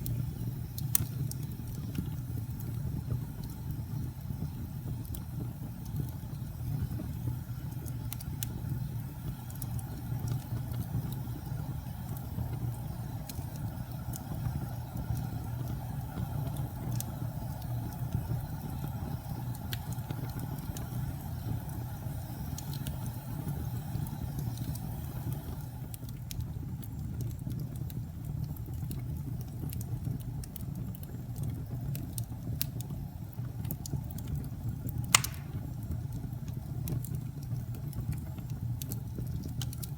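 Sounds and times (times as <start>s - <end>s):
wood crackling and popping: 0.0s - 23.4s, 24.0s - 39.9s
low rumble of flames: 0.0s - 39.9s.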